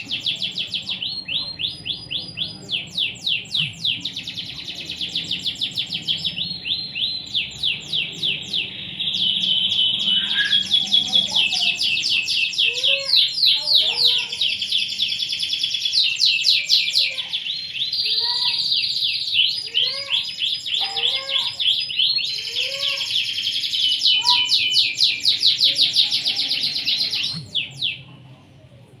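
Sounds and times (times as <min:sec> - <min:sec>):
canary singing trills: 0:00.0 - 0:28.3.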